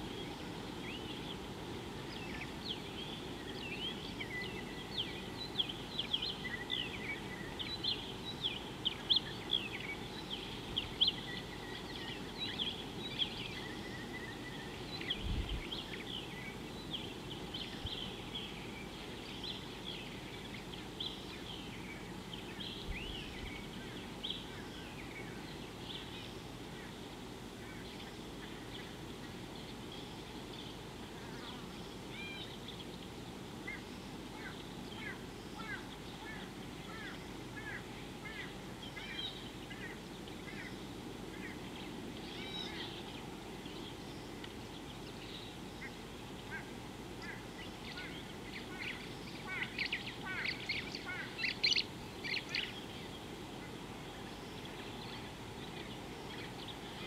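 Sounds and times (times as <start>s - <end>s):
low background hiss: 0.0s - 57.0s
wild birds chirping: 0.0s - 57.0s.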